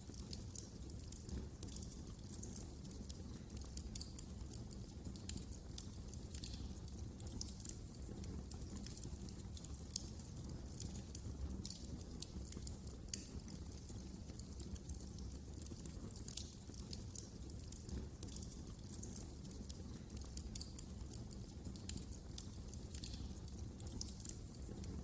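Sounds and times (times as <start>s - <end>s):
low rumble of flames: 0.0s - 25.0s
wood fire popping and snapping: 0.0s - 25.0s.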